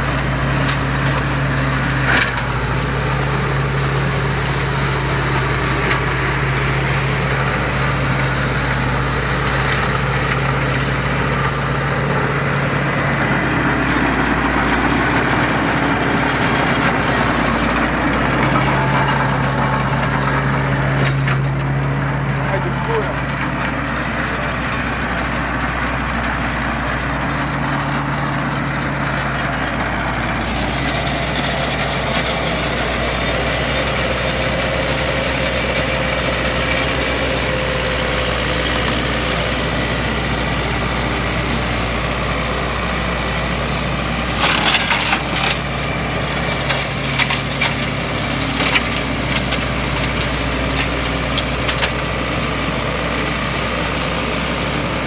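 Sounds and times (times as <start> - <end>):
flail mulcher chopping grass: 0.0 - 21.7, 30.3 - 55.0
tractor diesel engine running: 0.0 - 55.0.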